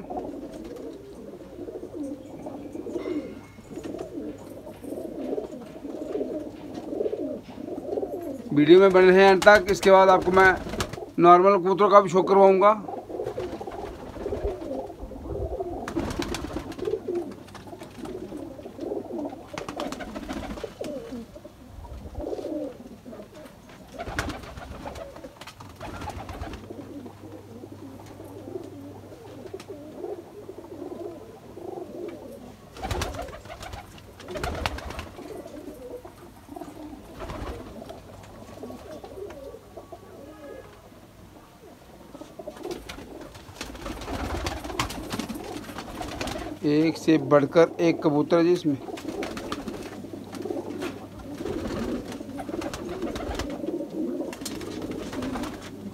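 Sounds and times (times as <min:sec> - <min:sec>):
pigeons cooing: 0:00.0 - 0:55.9.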